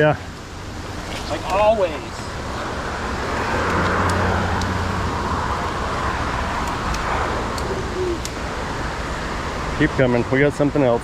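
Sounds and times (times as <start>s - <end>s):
vehicle passing: 0.7s - 10.4s.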